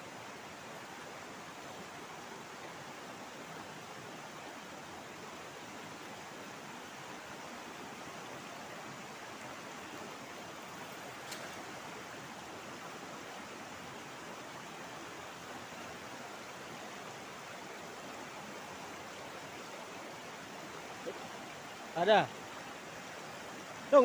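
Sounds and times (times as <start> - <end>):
river rapids rushing: 0.0 - 24.0.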